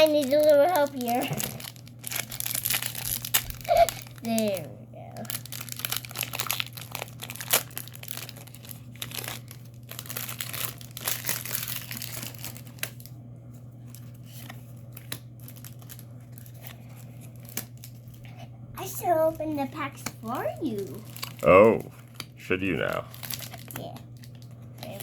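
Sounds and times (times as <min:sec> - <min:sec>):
wrapper tearing and crinkling: 0:00.0 - 0:13.1, 0:13.8 - 0:18.2, 0:20.6 - 0:22.2, 0:22.8 - 0:25.0.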